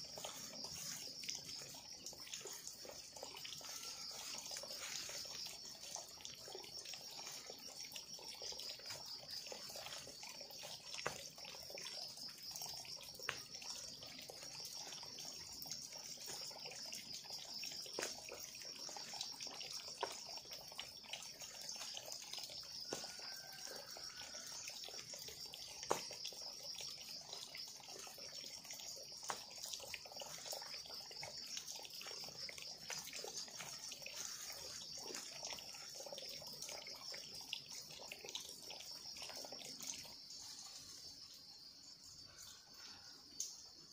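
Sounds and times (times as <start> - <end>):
steady high-pitched hiss: 0.0 - 43.9.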